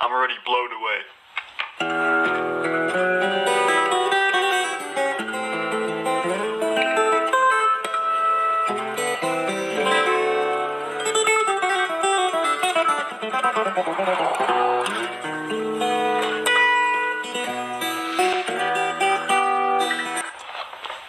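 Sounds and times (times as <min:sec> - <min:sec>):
fingerstyle acoustic guitar: 0:01.8 - 0:21.0.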